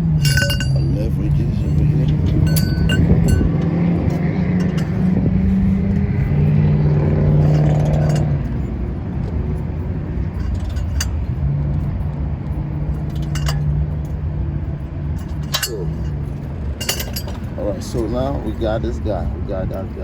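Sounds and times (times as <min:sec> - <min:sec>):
low machine hum: 0:00.0 - 0:20.0
short metallic clinks: 0:00.0 - 0:20.0.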